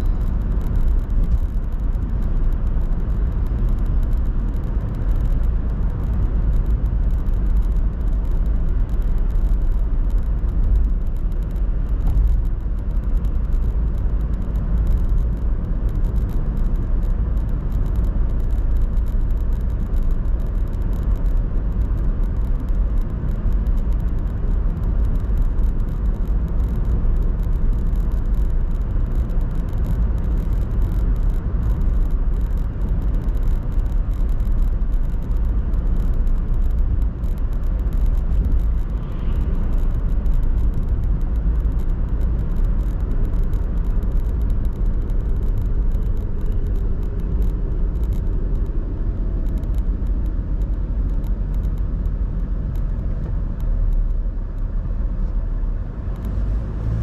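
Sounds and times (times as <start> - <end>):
car driving on tarmac: 0.0 - 57.0.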